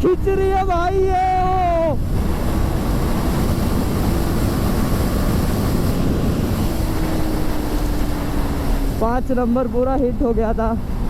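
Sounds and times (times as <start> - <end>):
wind rush on microphone: 0.0 - 11.0
motorcycle engine running hard: 1.0 - 11.0.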